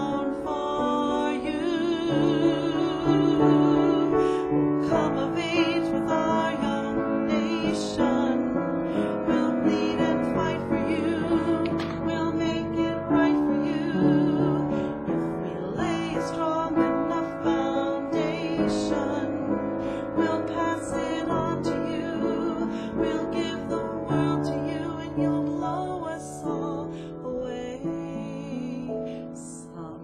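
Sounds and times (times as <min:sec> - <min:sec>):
electric keyboard piano chords: 0:00.0 - 0:25.1
woman singing softly: 0:00.0 - 0:30.0.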